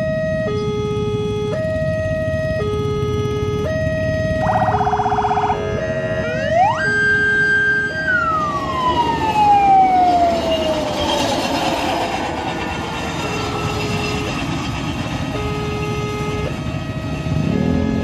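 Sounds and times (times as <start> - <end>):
two-tone electronic alarm: 0.0 - 11.6, 13.1 - 18.0
motor siren winding down: 0.0 - 18.0.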